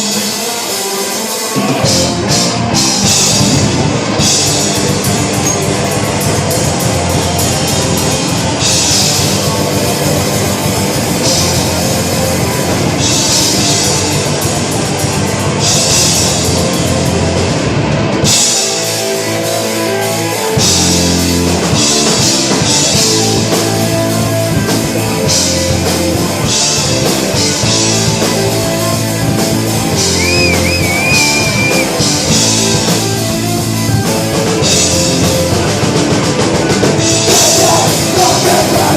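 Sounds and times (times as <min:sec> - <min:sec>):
heavy metal band playing: 0:00.0 - 0:38.9.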